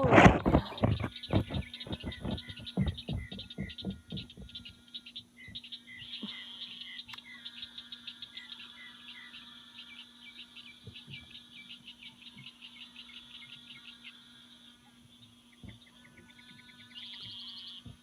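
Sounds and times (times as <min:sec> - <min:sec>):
steady low hum: 0:00.0 - 0:18.0
rapid high chirping: 0:00.3 - 0:14.7.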